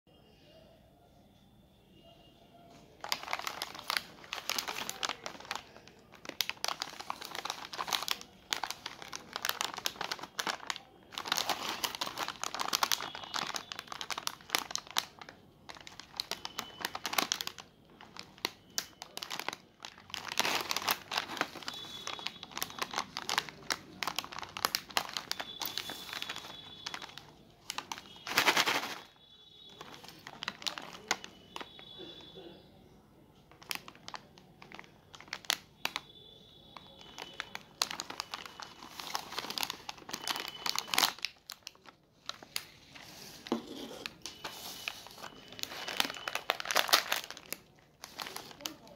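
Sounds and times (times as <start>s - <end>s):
plastic snack packets crinkling: 3.0s - 32.4s, 33.4s - 48.9s.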